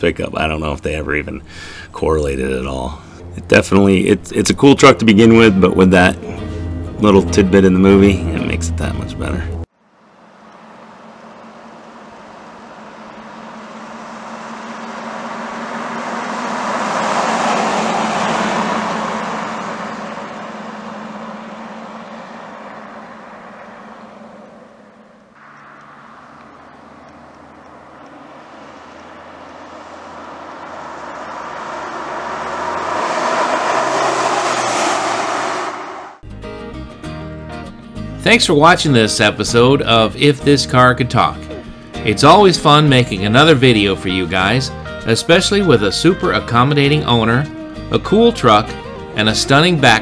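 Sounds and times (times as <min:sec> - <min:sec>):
vehicles driving by: 0:00.0 - 0:50.0.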